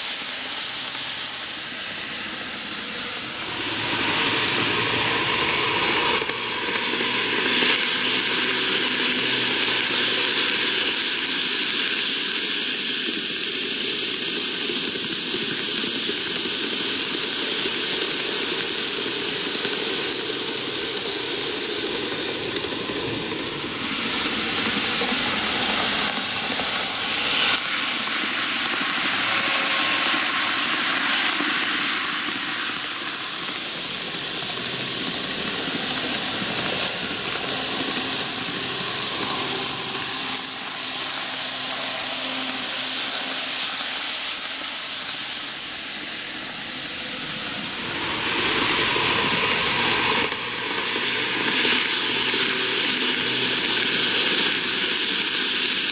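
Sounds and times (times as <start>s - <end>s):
model train motor whirring: 0.0s - 55.9s.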